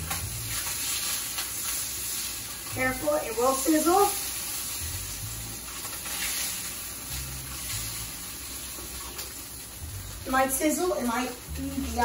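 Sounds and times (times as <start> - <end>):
fish sizzling in a hot pan: 0.0 - 12.0.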